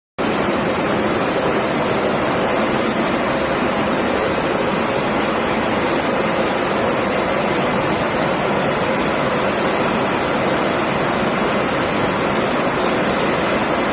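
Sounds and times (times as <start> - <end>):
shredder and conveyor machinery: 0.2 - 13.9.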